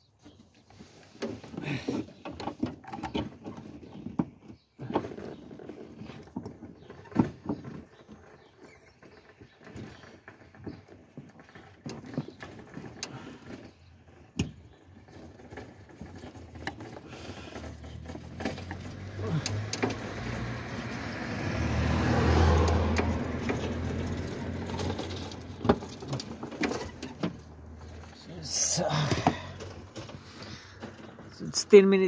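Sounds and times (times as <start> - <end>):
light clicks and metal rattles: 0.2 - 32.0.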